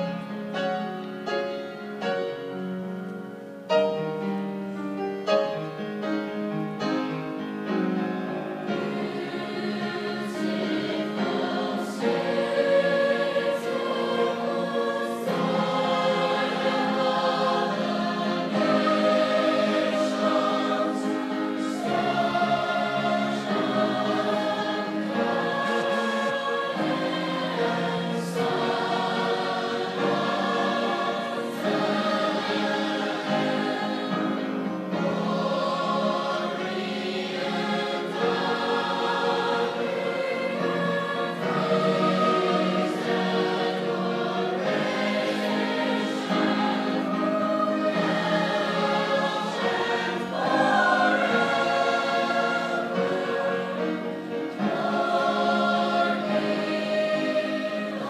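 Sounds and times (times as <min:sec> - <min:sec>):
large choir singing: 0:00.0 - 0:58.0.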